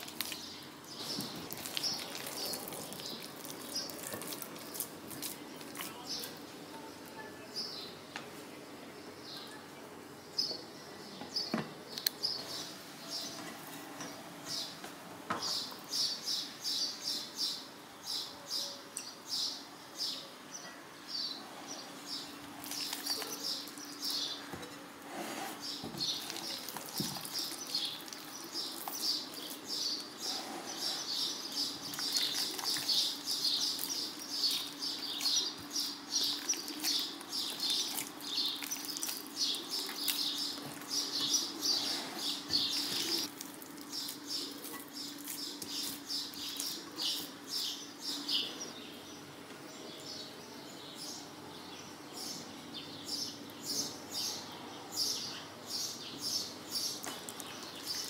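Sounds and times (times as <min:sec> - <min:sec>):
small birds twittering: 0:00.0 - 0:08.2, 0:08.9 - 0:58.0.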